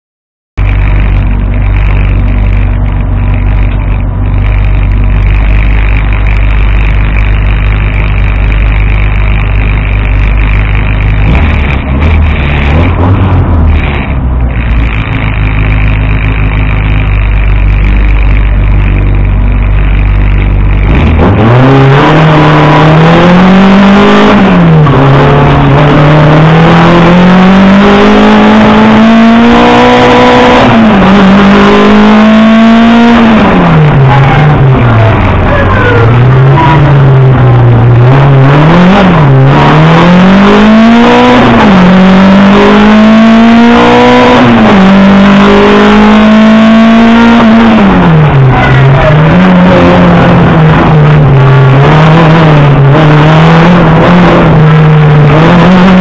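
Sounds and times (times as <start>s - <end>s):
race car engine revving: 0.6s - 56.0s.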